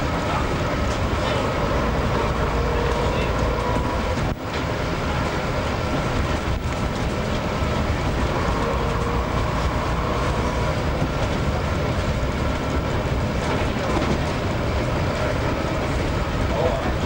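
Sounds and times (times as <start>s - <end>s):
bus engine rumble: 0.0s - 17.0s
faint steady tones: 0.0s - 17.0s.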